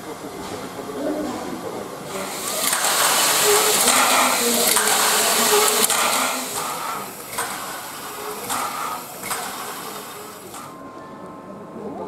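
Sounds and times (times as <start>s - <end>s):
steam locomotive hissing: 0.0s - 10.8s
steam puffs: 0.0s - 10.8s.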